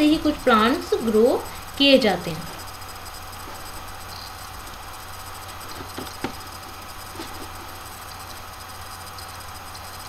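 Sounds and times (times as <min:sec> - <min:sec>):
low hum: 0:00.0 - 0:10.0
microphone hiss: 0:00.0 - 0:10.0.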